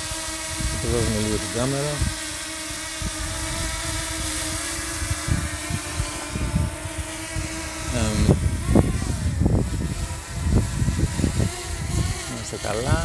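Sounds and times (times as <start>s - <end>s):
drone propellers whining: 0.0s - 13.0s
wind rumbling on microphone: 0.0s - 13.0s.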